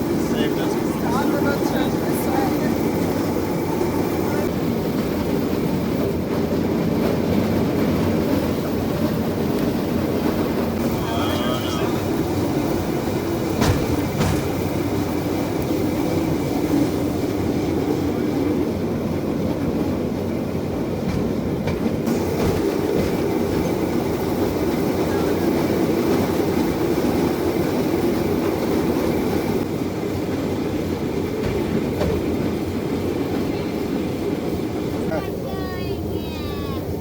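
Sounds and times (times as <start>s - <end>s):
steel wheels rolling on rails: 0.0s - 37.0s.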